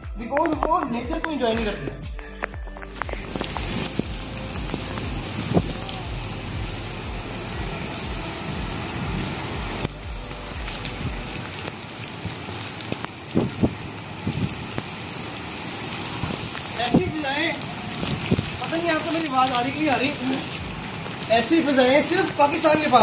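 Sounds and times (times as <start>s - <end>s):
raindrops tapping close by: 0.0s - 23.0s
heavy rain on concrete roof: 0.2s - 23.0s.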